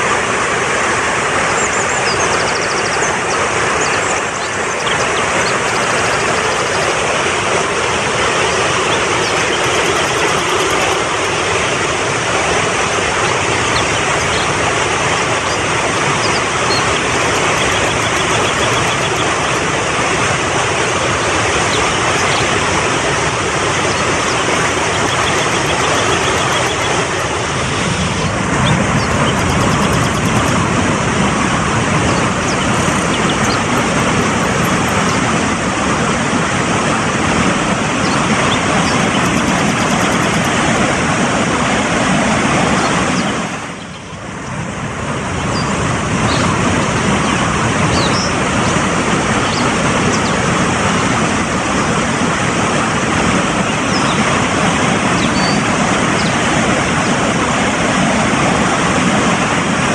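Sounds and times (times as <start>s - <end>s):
stream rushing over rocks: 0.0s - 43.8s, 44.6s - 59.9s.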